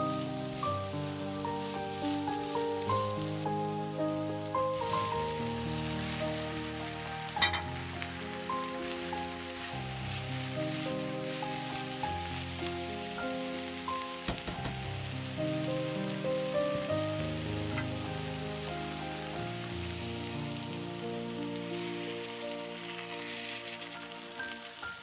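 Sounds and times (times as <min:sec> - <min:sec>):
slow instrumental music: 0:00.0 - 0:25.0
vegetables sizzling in a pot: 0:00.0 - 0:25.0.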